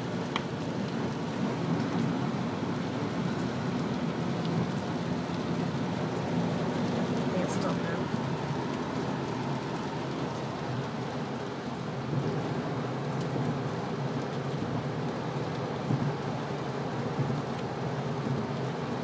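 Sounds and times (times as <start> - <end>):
hail and rain on car roof: 0.0 - 19.0.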